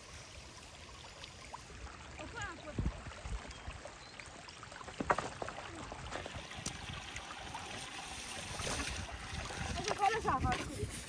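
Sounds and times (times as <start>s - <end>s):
stream trickling over stones: 0.0s - 11.0s.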